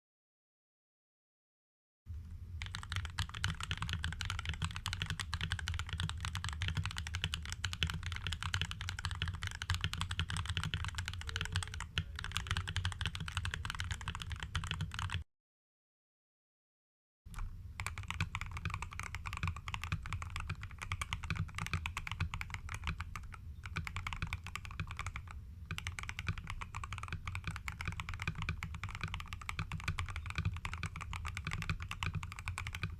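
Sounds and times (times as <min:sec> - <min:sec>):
typing on a mechanical keyboard: 0:02.6 - 0:15.2, 0:17.3 - 0:32.9.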